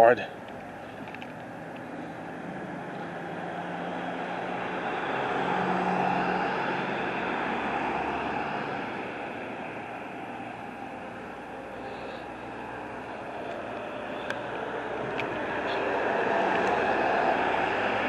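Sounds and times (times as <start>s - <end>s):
vehicle engine passing by: 1.4s - 18.0s.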